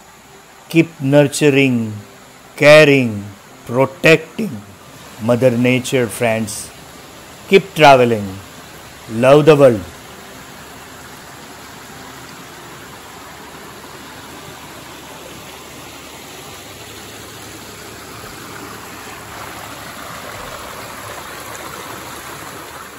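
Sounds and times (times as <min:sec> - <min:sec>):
stream splashing over stones: 0:03.4 - 0:22.9.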